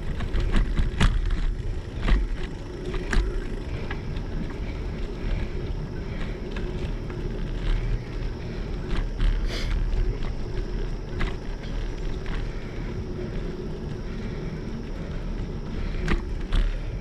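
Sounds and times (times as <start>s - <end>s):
bike clicks and rattles: 0.0s - 17.0s
tyre rumble on asphalt: 0.0s - 17.0s
wind buffeting microphone: 0.0s - 17.0s.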